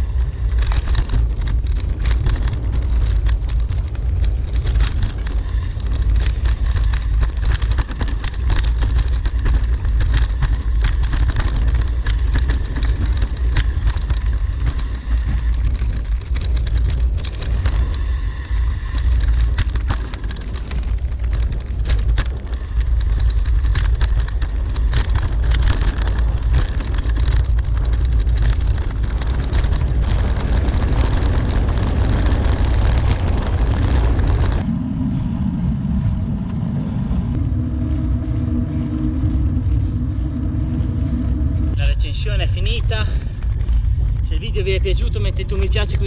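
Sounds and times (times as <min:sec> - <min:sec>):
bike rattling over gravel: 0:00.0 - 0:35.0, 0:36.6 - 0:46.0
wind rushing over camera: 0:00.0 - 0:46.0.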